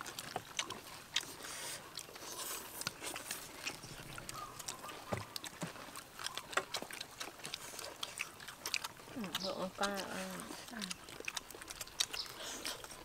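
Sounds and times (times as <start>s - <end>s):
crispy fritters crackling: 0.0s - 13.0s.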